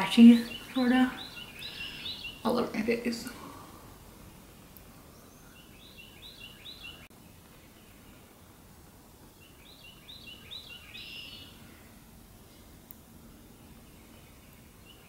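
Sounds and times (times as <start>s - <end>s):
songbird chirping: 0.0s - 8.6s, 9.2s - 15.0s
background hiss: 0.0s - 15.0s.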